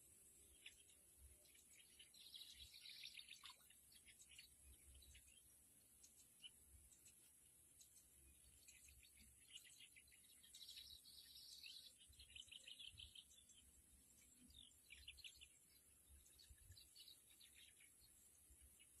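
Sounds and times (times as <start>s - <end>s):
small birds chirping faintly: 0.0s - 19.0s.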